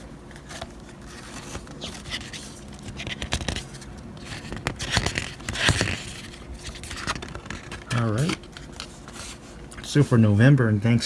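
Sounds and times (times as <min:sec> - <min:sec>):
calendar pages rustling: 0:00.0 - 0:11.0.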